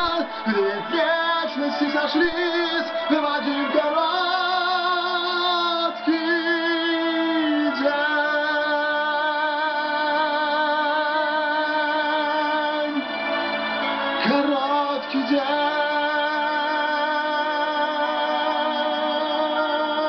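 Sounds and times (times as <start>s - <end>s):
person singing with vibrato: 0.0s - 13.1s, 13.8s - 20.0s
karaoke backing track: 0.0s - 20.0s.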